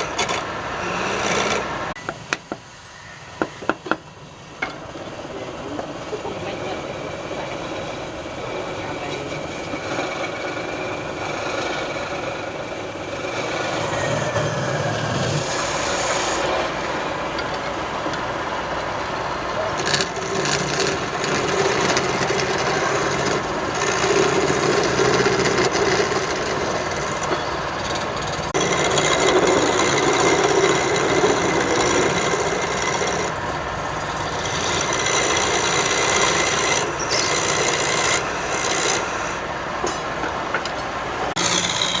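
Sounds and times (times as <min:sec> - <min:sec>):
wood lathe running: 0:00.0 - 0:01.9, 0:06.2 - 0:18.5, 0:19.6 - 0:39.5, 0:41.4 - 0:42.0
tool scraping spinning wood: 0:00.0 - 0:02.0, 0:05.7 - 0:18.3, 0:19.7 - 0:40.1, 0:41.4 - 0:42.0.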